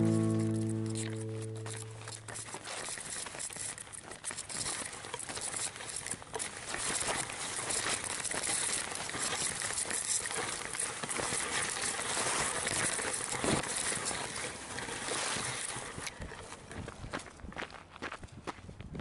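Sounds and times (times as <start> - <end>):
dry reeds rustling and crackling: 0.0 - 18.0.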